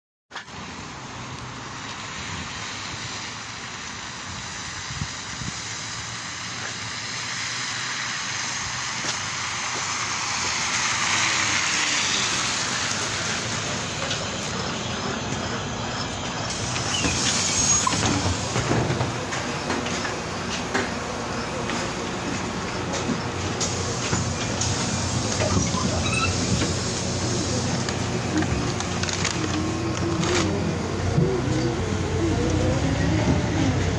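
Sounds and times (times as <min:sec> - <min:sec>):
bus engine: 0:00.3 - 0:33.9
street traffic: 0:00.3 - 0:33.9
tyres on wet road: 0:00.3 - 0:33.9.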